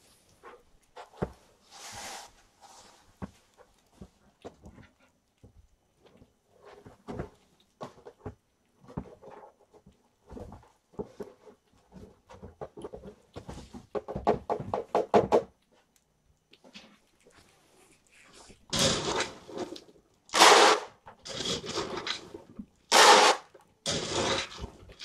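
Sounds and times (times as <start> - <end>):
kittens eating from dishes: 0.0 - 14.8, 15.6 - 20.4, 21.0 - 25.0.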